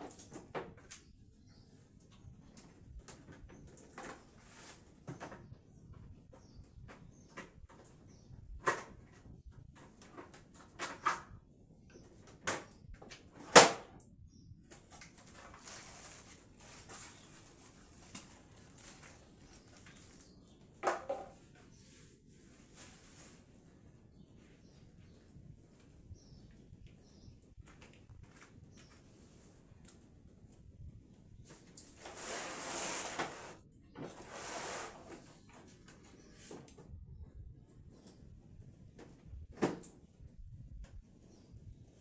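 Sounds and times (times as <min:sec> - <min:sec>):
faint rustling hiss: 0:00.0 - 0:13.8, 0:14.6 - 0:42.0.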